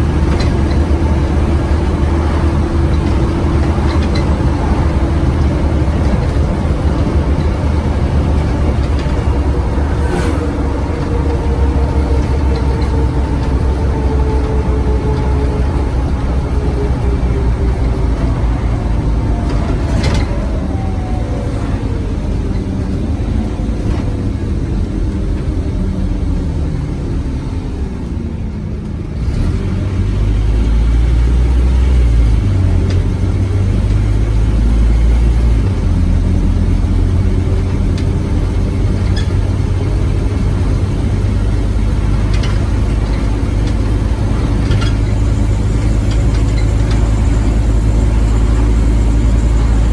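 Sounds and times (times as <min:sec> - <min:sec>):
bus diesel engine rumbling: 0:00.0 - 0:49.9.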